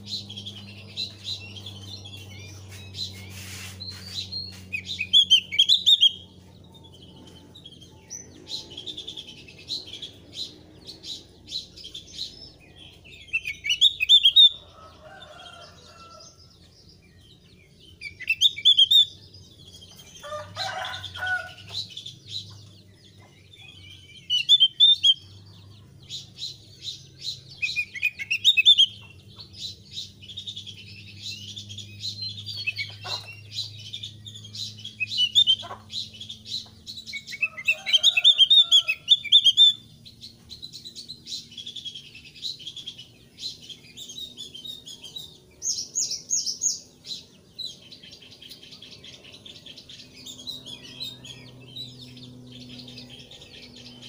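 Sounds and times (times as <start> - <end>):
bird song high phrases: 0.0 - 54.0
soft bird twittering: 0.0 - 54.0.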